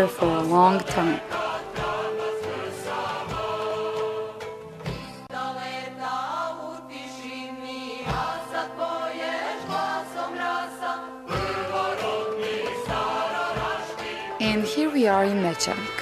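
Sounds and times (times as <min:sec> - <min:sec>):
choir chanting: 0:00.0 - 0:16.0.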